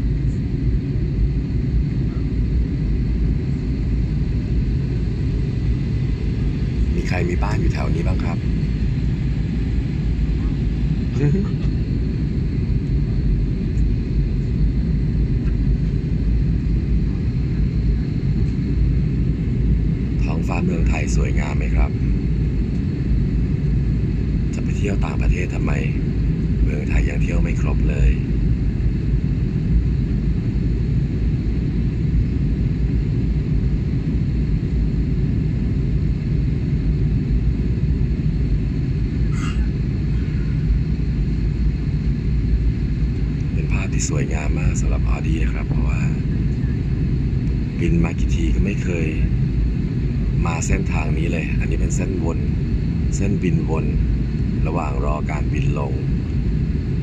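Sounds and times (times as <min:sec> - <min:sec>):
airliner cabin engine rumble: 0:00.0 - 0:57.0
faint high whine: 0:00.0 - 0:57.0.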